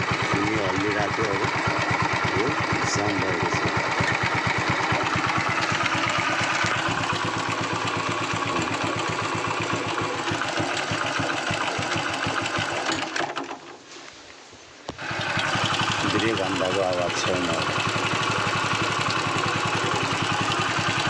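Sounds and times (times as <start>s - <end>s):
motorcycle engine idling: 0.0s - 13.2s, 15.0s - 21.0s.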